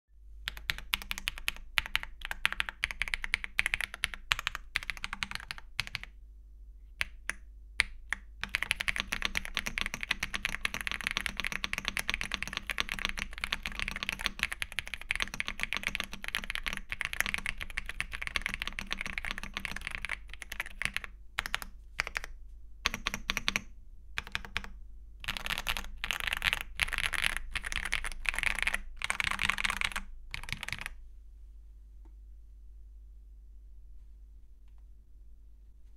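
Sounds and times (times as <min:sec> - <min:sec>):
mechanical keyboard typing: 0:00.5 - 0:06.2, 0:07.0 - 0:22.3, 0:22.9 - 0:31.0.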